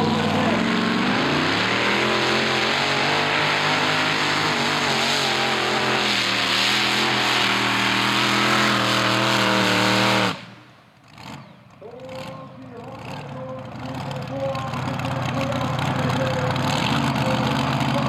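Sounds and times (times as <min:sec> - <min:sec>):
tractor engine running flat out: 0:00.0 - 0:18.0.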